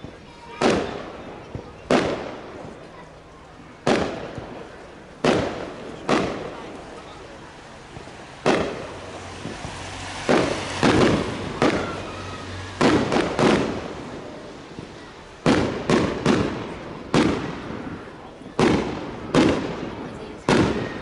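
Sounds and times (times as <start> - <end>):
fireworks bangs: 0.0 - 21.0
echoing rumble: 3.8 - 21.0.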